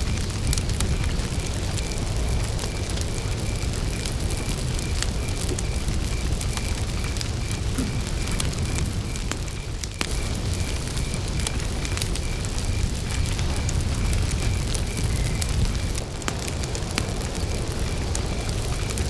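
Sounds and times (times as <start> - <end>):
campfire crackling and popping: 0.0 - 19.0
cricket chirping: 0.0 - 19.0.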